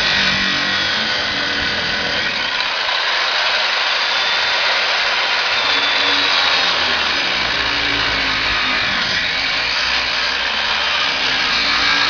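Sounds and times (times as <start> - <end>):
angle grinder cutting metal: 0.0 - 12.0.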